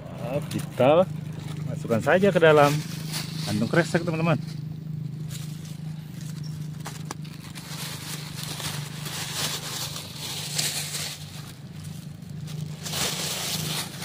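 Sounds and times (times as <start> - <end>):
low hum: 0.0 - 14.0
dry ferns rustling: 0.3 - 14.0.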